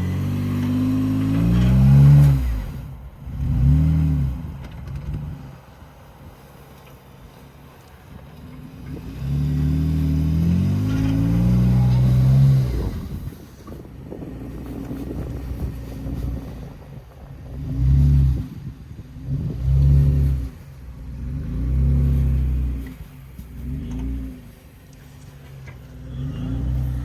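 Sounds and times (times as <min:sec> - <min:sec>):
off-road engine revving: 0:00.0 - 0:05.6, 0:08.2 - 0:27.0.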